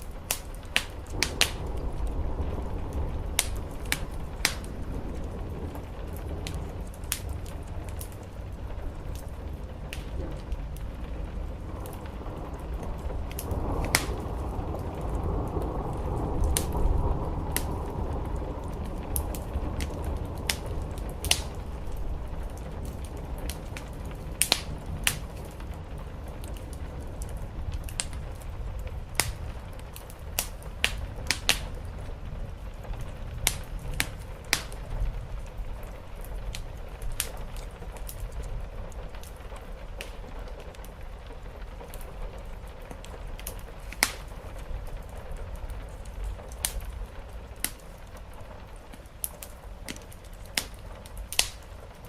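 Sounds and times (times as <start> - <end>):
rain on a roof: 0.0 - 52.0
wood fire crackling and popping: 0.0 - 52.0.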